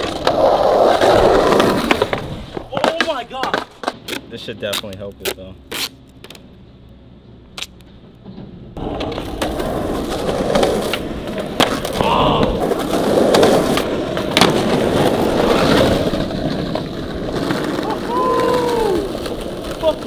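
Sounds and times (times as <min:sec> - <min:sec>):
skateboard clacks: 0:00.0 - 0:05.4, 0:07.6 - 0:20.0
skateboard wheels rolling on asphalt: 0:00.0 - 0:20.0.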